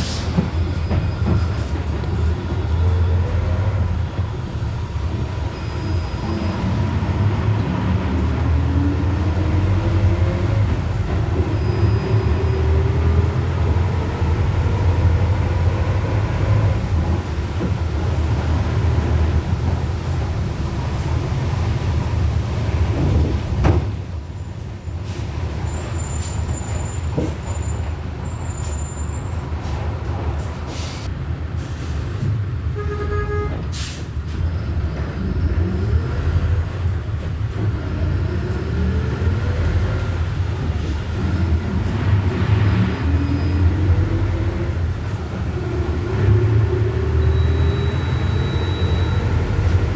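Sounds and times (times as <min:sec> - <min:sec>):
bus diesel engine under load: 0:00.0 - 0:49.9.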